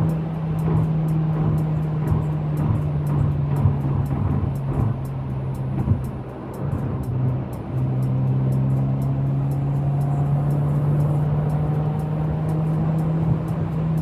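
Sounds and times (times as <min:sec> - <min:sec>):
car engine and exhaust droning: 0:00.0 - 0:14.0.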